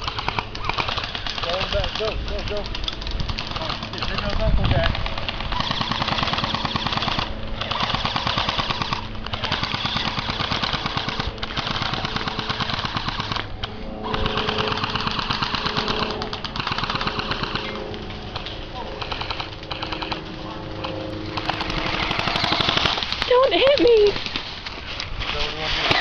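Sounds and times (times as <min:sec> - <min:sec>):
airsoft guns firing bursts: 0:00.0 - 0:24.5.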